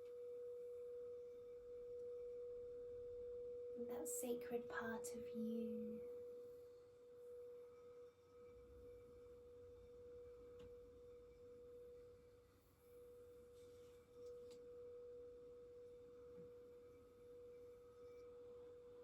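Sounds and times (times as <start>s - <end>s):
crystal singing bowl tone: 0.0s - 19.0s.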